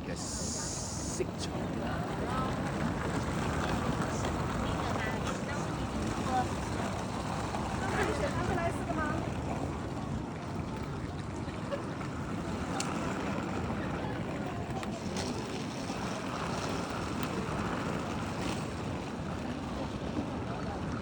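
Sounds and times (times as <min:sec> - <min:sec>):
faint distant voices: 0:00.0 - 0:18.5.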